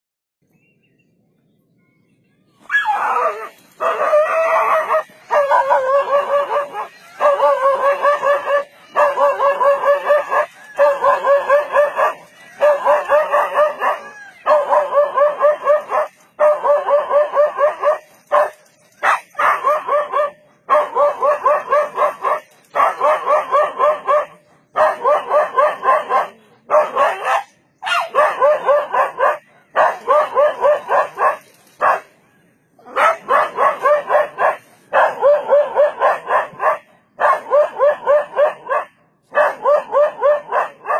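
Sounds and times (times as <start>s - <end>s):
dog barking: 2.7s - 32.1s, 32.8s - 40.9s.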